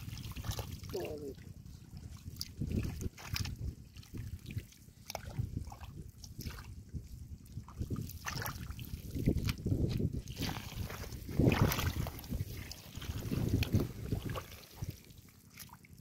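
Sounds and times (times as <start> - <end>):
hands splashing in muddy water: 0.0 - 1.4, 2.0 - 6.8, 7.5 - 16.0.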